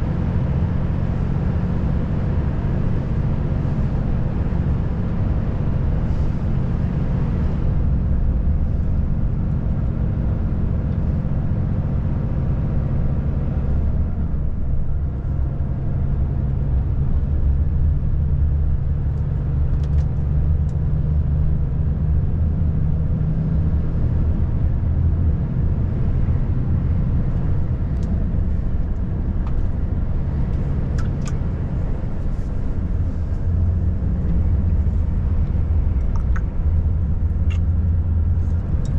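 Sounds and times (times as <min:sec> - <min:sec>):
road noise: 0:00.0 - 0:38.9
truck diesel engine drone: 0:00.0 - 0:38.9.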